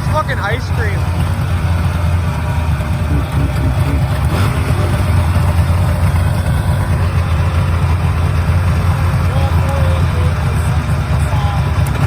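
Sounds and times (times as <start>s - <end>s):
large engine idling: 0.0s - 12.0s.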